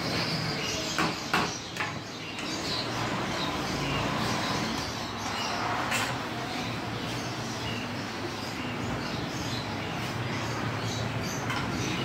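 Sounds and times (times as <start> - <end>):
street stall bustle: 0.0 - 12.0.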